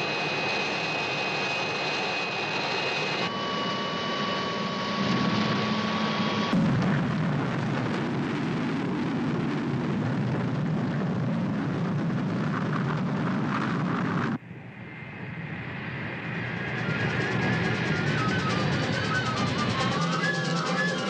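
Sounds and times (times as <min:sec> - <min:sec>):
jet engines at full power: 0:00.0 - 0:21.0.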